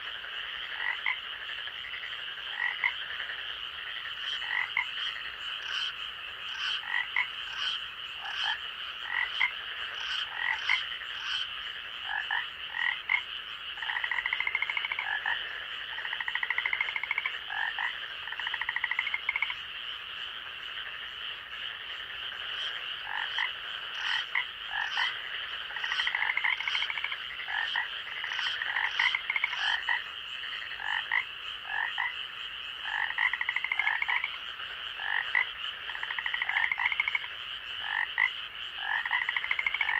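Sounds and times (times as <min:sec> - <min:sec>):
frogs calling: 0:00.0 - 0:39.9.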